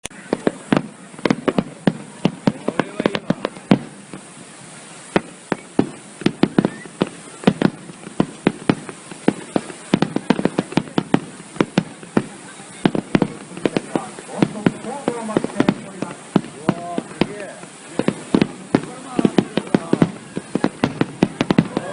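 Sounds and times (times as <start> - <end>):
fireworks bursting: 0.0 - 21.9.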